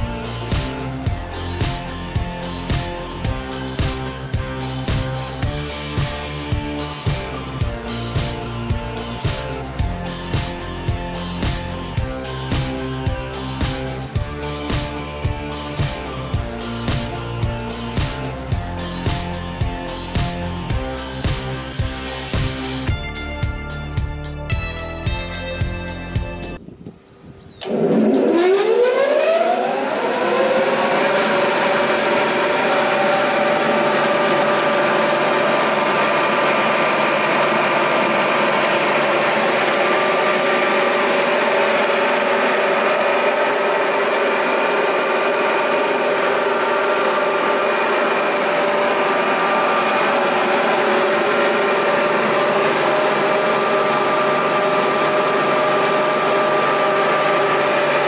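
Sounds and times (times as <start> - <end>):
belt sander humming: 0.0 - 23.0, 27.6 - 58.0.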